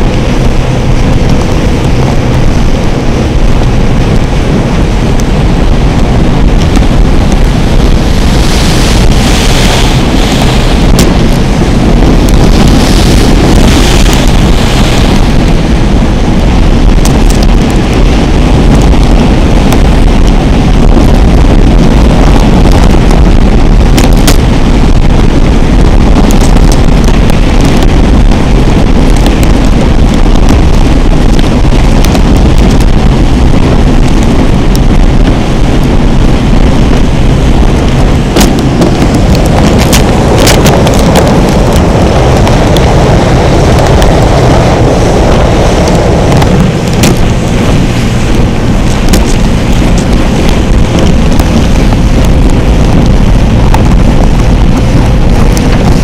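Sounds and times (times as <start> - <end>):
boat engine: 0.0 - 56.0
water rushing: 0.0 - 56.0
wind rumble on microphone: 0.0 - 56.0.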